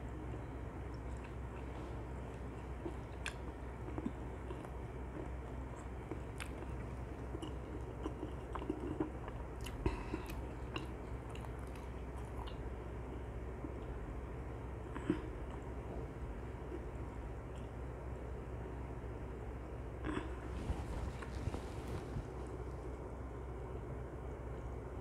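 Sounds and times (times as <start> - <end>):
chewing sticky fried chicken: 0.0 - 18.0, 20.1 - 23.0.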